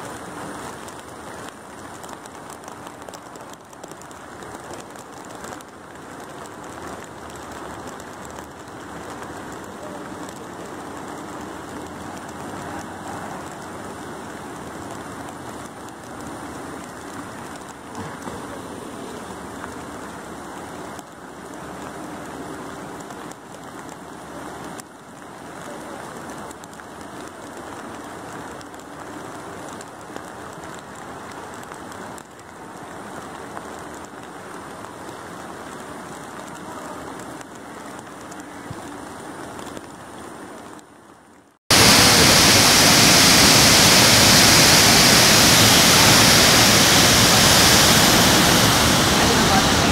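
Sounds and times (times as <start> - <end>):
flowing floodwater: 0.0 - 49.9
rain: 0.0 - 49.9.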